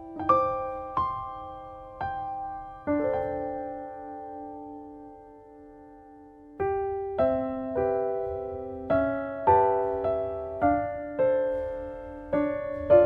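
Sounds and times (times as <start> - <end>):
gentle solo piano melody: 0.0 - 13.0.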